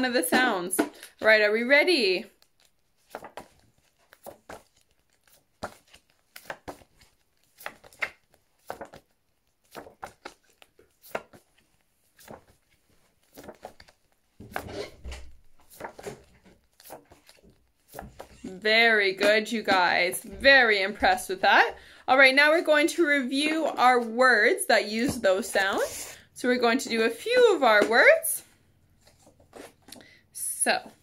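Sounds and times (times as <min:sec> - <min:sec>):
paper flashcards rustling: 0:02.1 - 0:24.2, 0:24.8 - 0:28.3, 0:28.9 - 0:30.2.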